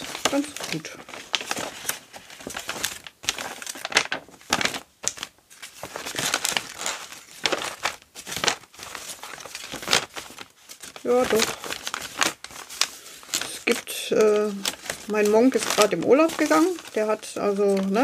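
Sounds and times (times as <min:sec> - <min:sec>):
paper pages rustling and crinkling: 0:00.0 - 0:18.0.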